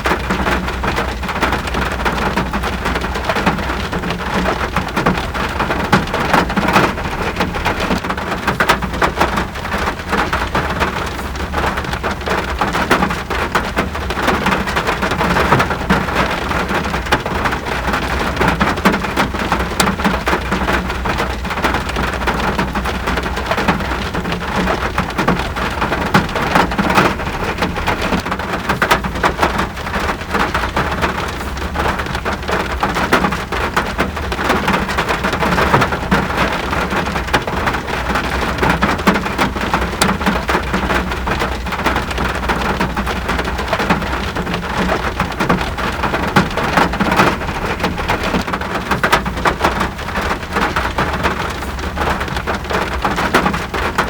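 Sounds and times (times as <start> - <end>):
continuous low rumble: 0.0 - 54.0
rain falling: 0.0 - 54.0.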